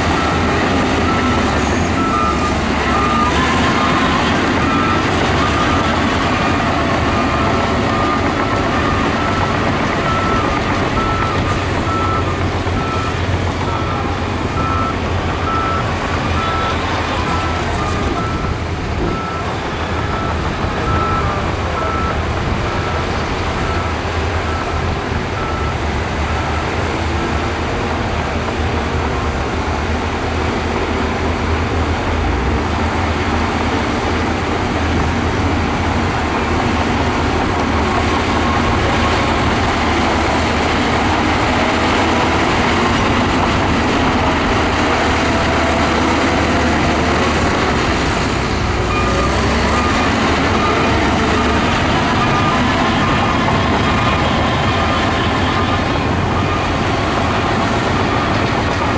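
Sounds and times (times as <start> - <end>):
reversing alarm beeping: 0.0 - 27.4, 33.4 - 58.9
heavy diesel machinery running: 0.0 - 58.9.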